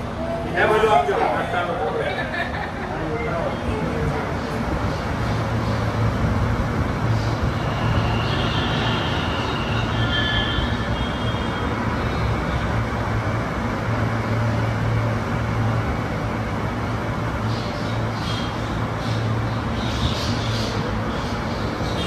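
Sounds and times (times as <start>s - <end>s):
train rail rumble: 0.0s - 22.0s.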